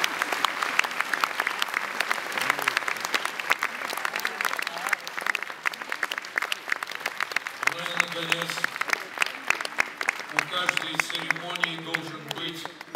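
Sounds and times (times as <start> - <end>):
audience applauding: 0.0 - 12.9
individual hand claps: 0.0 - 12.9.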